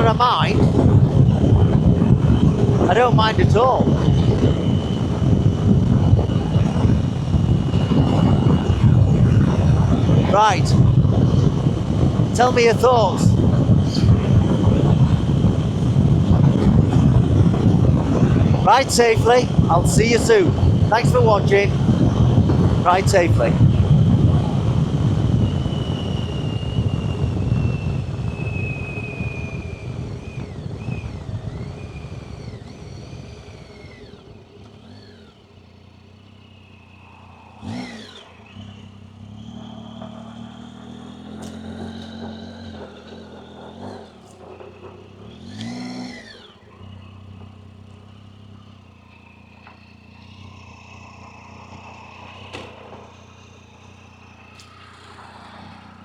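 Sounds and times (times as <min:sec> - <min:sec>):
motorcycle engine pulling away: 0:00.0 - 0:56.0
traffic: 0:00.0 - 0:56.0
vehicles passing: 0:00.0 - 0:56.0.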